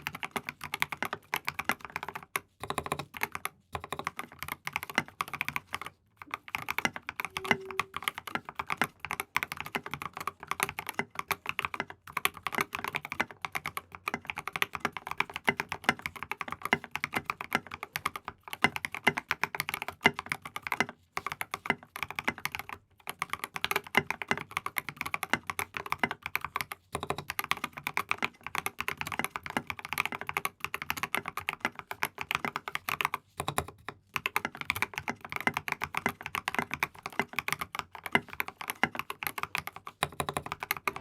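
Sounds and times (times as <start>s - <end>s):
mechanical keyboard typing: 0.0s - 41.0s.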